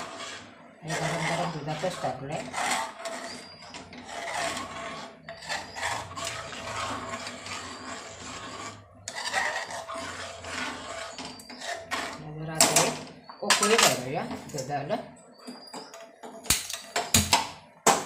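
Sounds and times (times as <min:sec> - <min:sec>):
metal spoon scraping a pot: 0:00.0 - 0:17.0.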